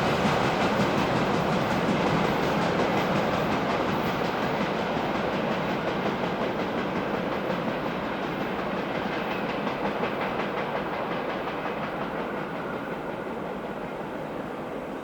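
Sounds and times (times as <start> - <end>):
train wheels rattling on track: 0.0 - 15.0.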